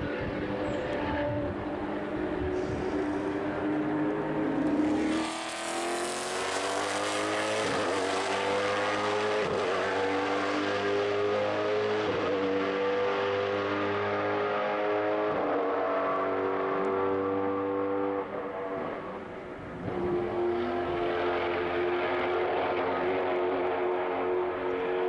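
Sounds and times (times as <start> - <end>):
racing engine accelerating: 0.0 - 25.0.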